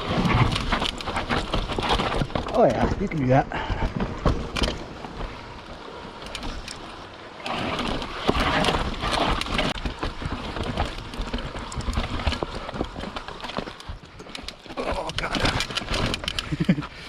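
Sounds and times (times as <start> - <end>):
bike rattling and clattering: 0.0 - 17.0
bike tyres rolling over rocks: 0.0 - 17.0.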